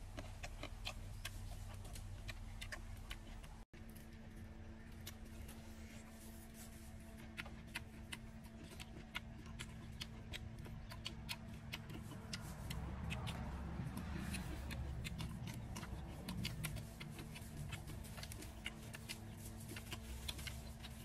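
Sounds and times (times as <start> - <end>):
faint steady hum: 0.0 - 21.0
tearing and chewing crackles: 0.0 - 21.0.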